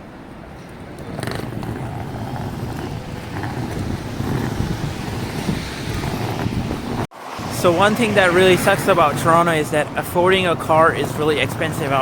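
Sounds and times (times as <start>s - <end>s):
rumble of passing traffic: 0.0s - 12.0s
wind buffeting microphone: 0.0s - 12.0s.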